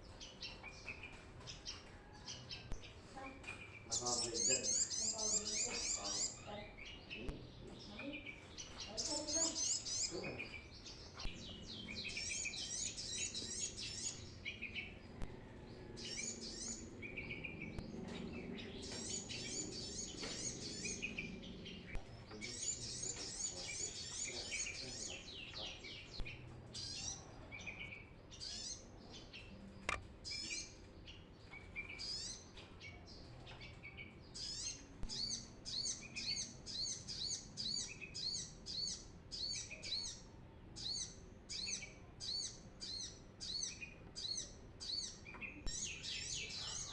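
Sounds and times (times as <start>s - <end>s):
bird singing high chirps: 0.0s - 46.9s.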